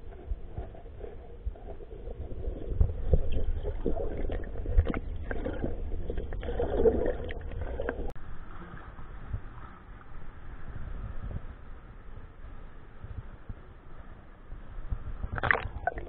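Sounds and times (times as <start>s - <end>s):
muffled underwater rumble: 0.0s - 16.0s.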